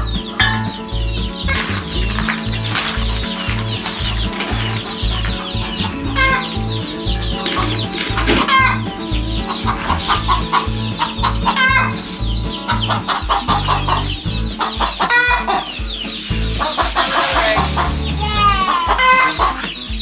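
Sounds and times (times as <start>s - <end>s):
background music with bass line: 0.0s - 20.0s
chickens clucking: 0.0s - 20.0s.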